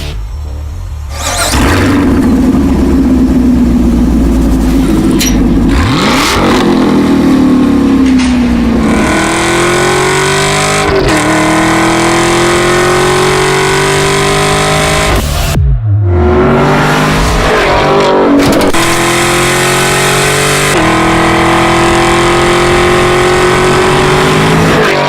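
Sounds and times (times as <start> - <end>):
car engine revving: 1.0 - 25.0.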